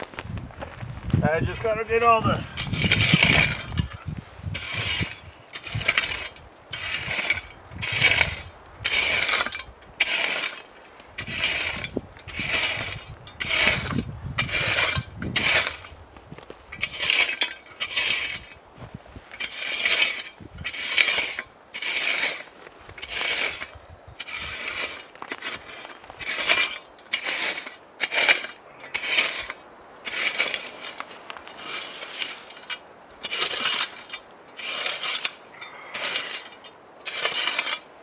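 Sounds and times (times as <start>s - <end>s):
hand tool scraping: 1.6s - 38.0s.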